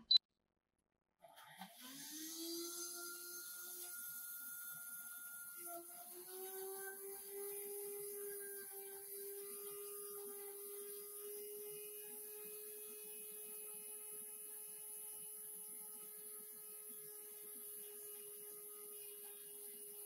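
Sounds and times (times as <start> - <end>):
blender motor whining: 1.6 - 20.0.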